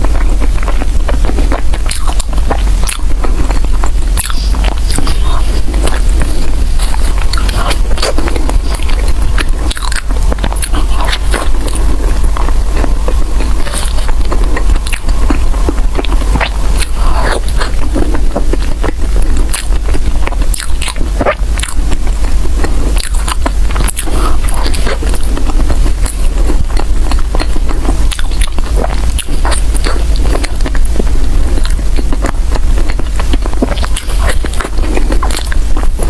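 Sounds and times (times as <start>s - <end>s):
chewing bread: 0.0s - 36.0s
steady low hum: 0.0s - 36.0s.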